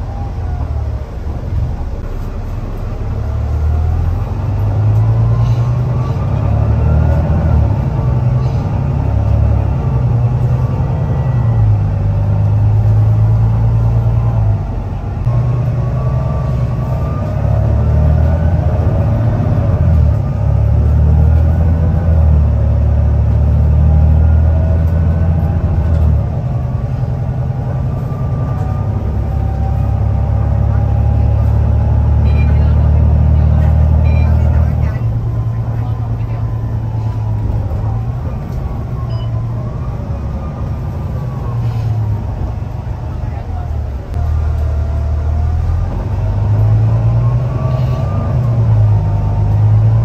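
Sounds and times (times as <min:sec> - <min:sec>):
bus diesel engine rumbling: 0:00.0 - 0:50.0.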